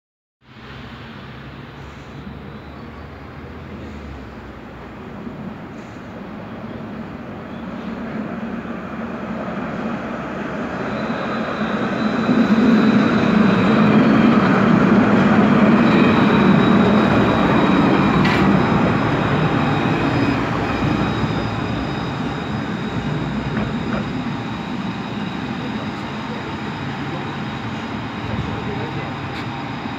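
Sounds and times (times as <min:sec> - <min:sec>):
tram passing: 0:00.4 - 0:29.9.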